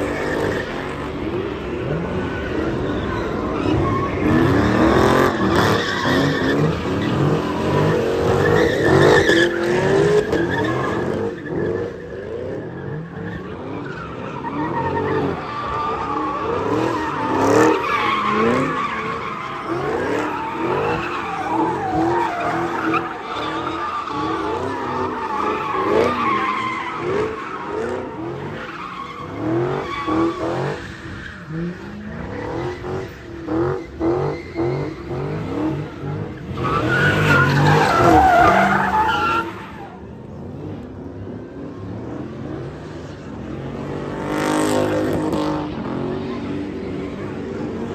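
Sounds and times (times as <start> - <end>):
car tyres squealing: 0.0 - 47.9.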